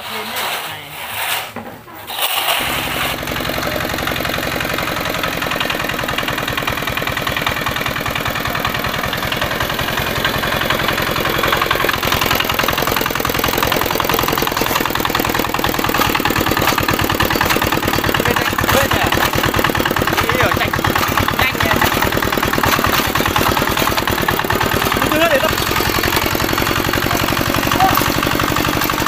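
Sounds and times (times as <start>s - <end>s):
diesel engine running: 2.6s - 29.0s.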